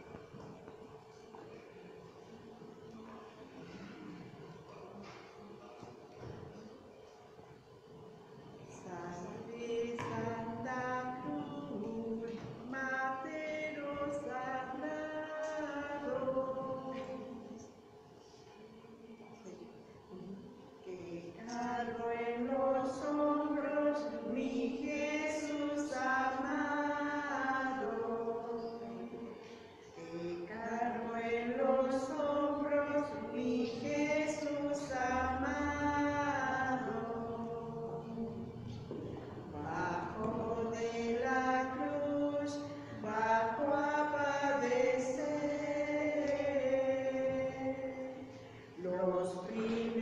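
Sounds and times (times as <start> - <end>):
voices chanting a hymn: 8.6 - 17.8, 18.5 - 50.0.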